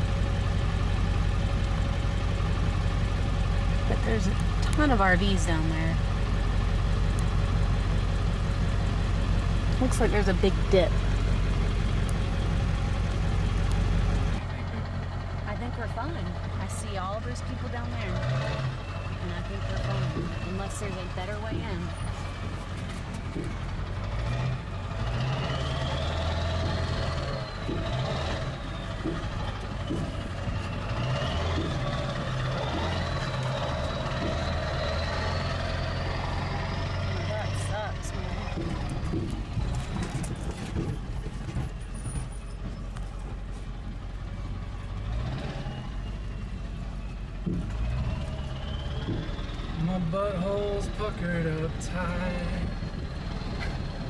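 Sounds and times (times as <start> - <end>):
faint rattles: 0.0 - 45.3
faint drivetrain whine: 0.0 - 54.0
truck engine droning: 0.0 - 54.0.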